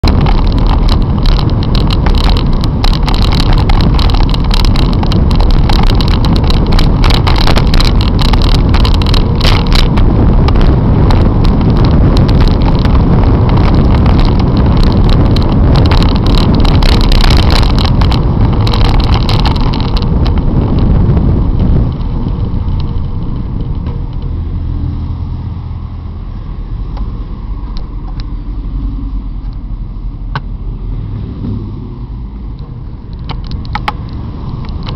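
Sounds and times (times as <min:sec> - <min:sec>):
road traffic: 0:00.0 - 0:34.9
wind rumble on microphone: 0:00.0 - 0:34.9.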